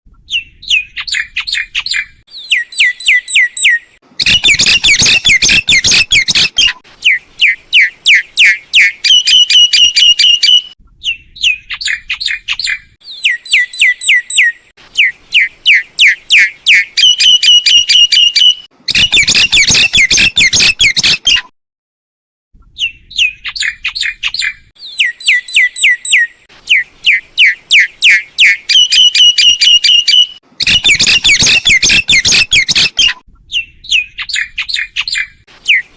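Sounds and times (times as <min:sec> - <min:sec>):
myna whistling and chattering: 0:00.3 - 0:15.1, 0:15.7 - 0:21.5, 0:22.8 - 0:35.8.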